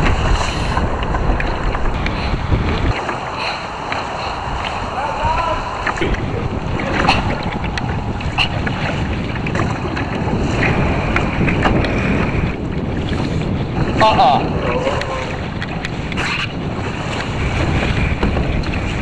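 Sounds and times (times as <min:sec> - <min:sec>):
water slapping against kayak hull: 0:00.0 - 0:19.0
wind buffeting microphone: 0:00.0 - 0:19.0.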